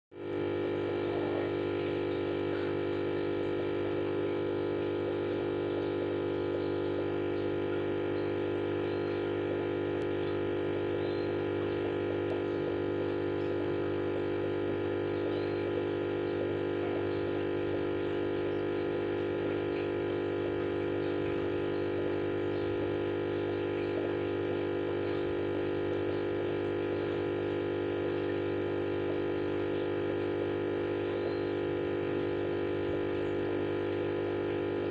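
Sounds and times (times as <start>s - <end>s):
aquarium pump humming: 0.1s - 34.9s.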